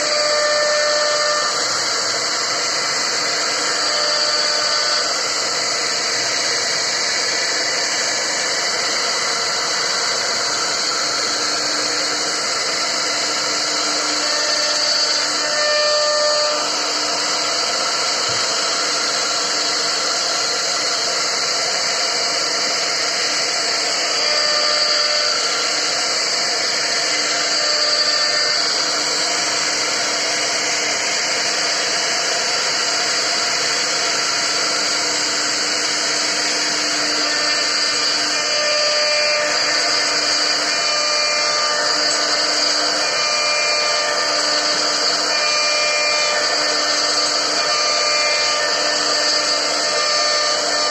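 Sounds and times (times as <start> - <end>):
router spindle whine: 0.0 - 50.9
wood cutting noise: 0.0 - 50.9.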